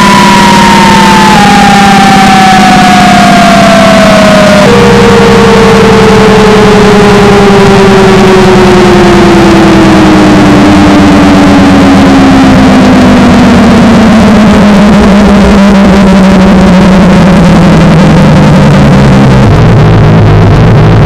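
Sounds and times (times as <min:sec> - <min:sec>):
pulsing buzz: 0:00.0 - 0:21.0
washing machine motor whine: 0:00.0 - 0:21.0.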